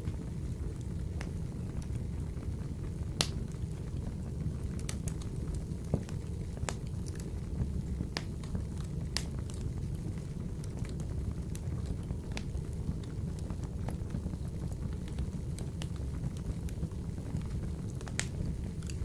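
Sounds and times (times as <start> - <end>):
fire crackles and pops: 0.0 - 19.0
fire rumbling in a stove: 0.0 - 19.0.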